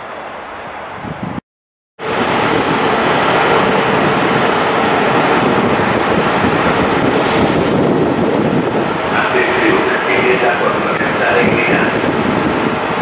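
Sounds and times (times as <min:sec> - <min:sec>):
wind on microphone: 0:00.9 - 0:01.4, 0:02.0 - 0:13.0
train rushing noise: 0:02.0 - 0:13.0.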